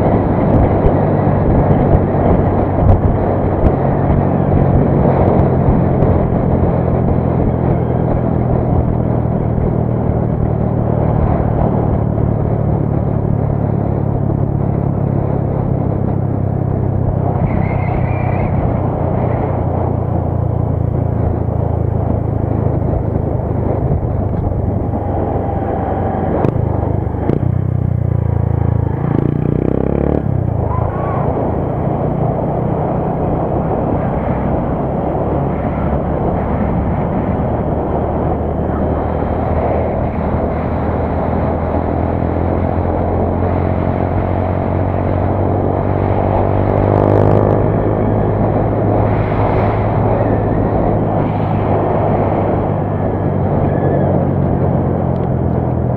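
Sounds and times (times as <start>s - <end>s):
motorcycle engine running hard: 0.0s - 55.9s.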